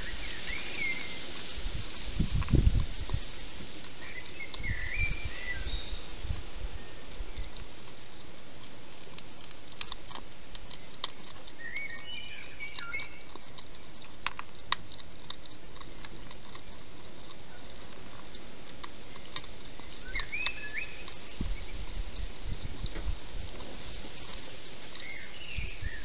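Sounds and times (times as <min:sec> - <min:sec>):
hedgehog crunching food: 0:00.0 - 0:26.0.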